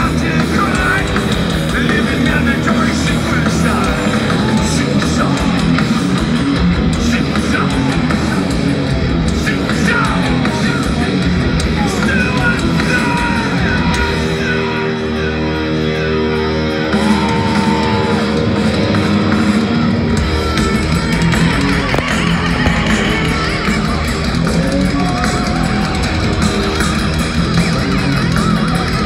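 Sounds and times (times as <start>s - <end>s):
live heavy metal band: 0.0s - 29.0s.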